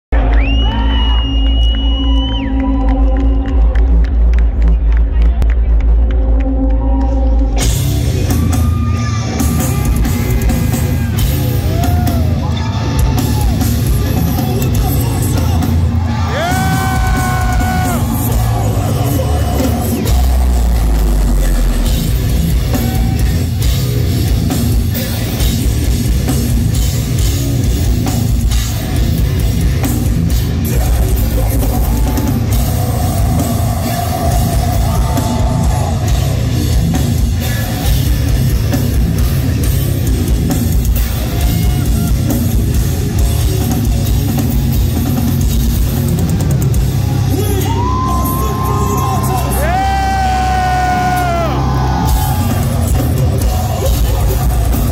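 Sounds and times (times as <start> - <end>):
heavy distorted guitars: 0.1 - 54.9
heavy metal band playing live: 5.9 - 54.9
pounding drums and cymbals: 7.5 - 54.9.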